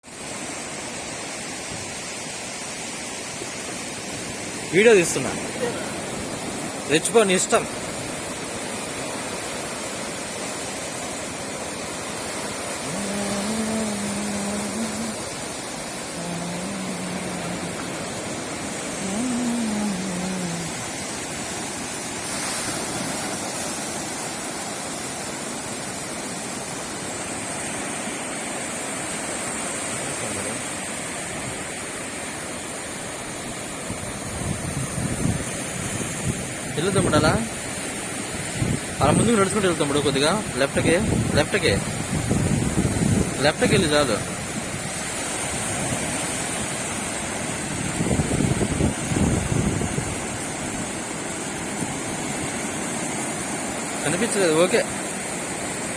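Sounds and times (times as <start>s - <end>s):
sea waves washing onto beach: 0.0s - 55.9s.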